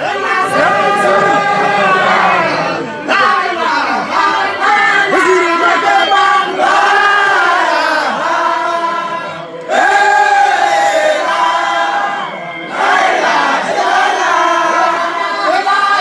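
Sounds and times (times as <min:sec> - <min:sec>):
group of men chanting: 0:00.0 - 0:16.0.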